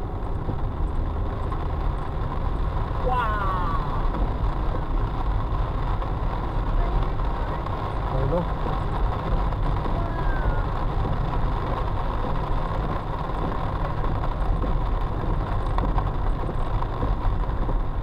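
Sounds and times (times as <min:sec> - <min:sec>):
car driving on wet road: 0:00.0 - 0:18.0
heavy rain: 0:00.0 - 0:18.0.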